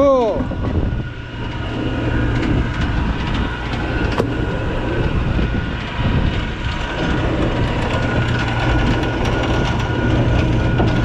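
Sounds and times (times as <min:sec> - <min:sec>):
anchor capstan running: 0:00.0 - 0:11.0
boat engines rumbling: 0:00.0 - 0:11.0.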